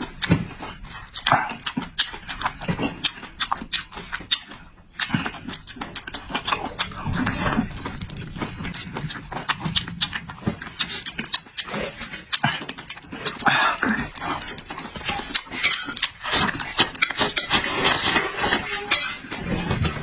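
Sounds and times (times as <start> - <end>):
person chewing and slurping: 0.0 - 20.0.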